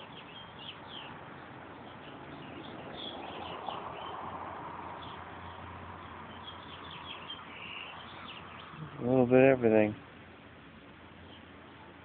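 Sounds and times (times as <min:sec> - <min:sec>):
small birds chirping: 0:00.0 - 0:10.2, 0:10.9 - 0:12.0
steady outdoor background noise: 0:00.0 - 0:12.0.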